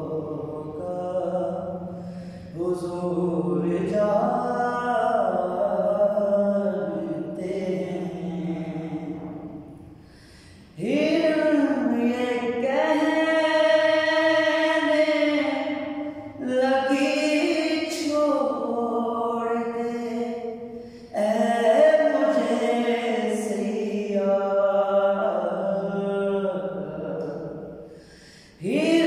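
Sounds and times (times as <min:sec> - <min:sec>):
man singing unaccompanied: 0:00.0 - 0:09.7, 0:10.6 - 0:27.8, 0:28.6 - 0:29.0.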